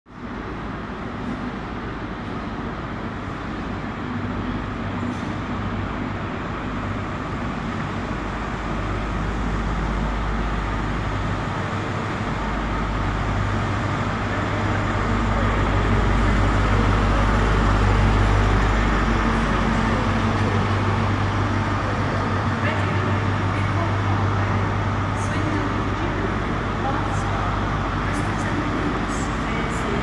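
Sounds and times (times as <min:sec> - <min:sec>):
train diesel engine humming: 0:00.1 - 0:30.0.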